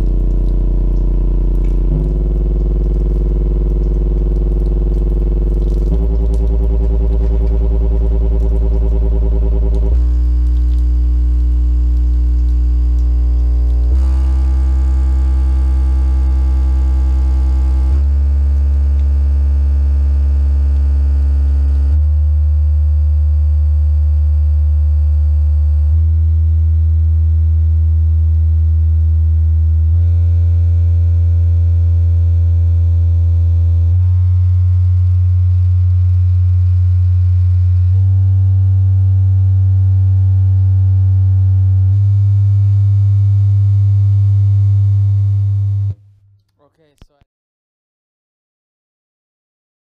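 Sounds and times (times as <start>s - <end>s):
loudspeaker low hum: 0.0s - 22.0s, 25.8s - 46.0s, 46.6s - 47.2s.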